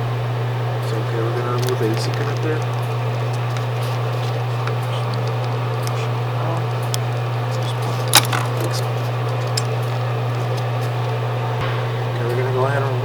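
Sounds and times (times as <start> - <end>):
machine humming: 0.0 - 13.0
handling ticks: 0.8 - 11.6.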